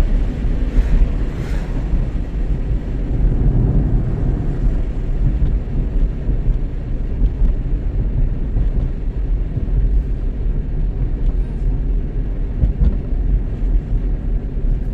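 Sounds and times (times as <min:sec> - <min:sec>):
vehicle road and wind noise: 0:00.0 - 0:14.9.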